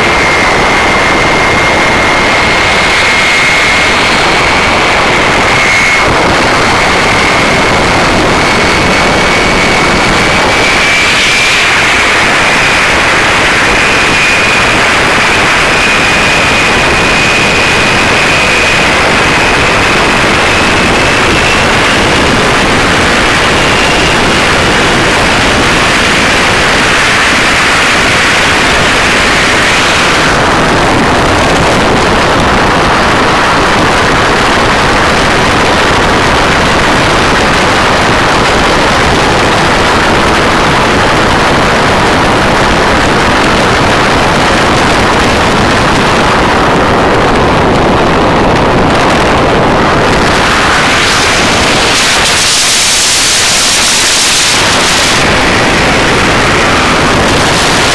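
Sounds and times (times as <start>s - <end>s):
distorted boat engine roar: 0.0s - 57.9s.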